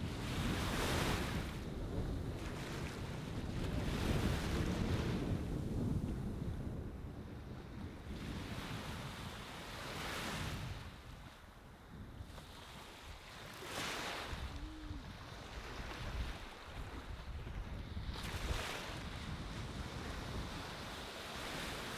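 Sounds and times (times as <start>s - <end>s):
ocean waves washing on sand: 0.0s - 21.9s
wind rumbling on microphone: 0.0s - 21.9s.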